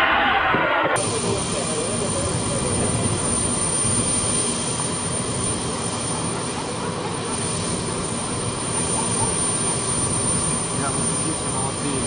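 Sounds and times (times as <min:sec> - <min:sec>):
jet aircraft engines running: 0:00.0 - 0:12.0.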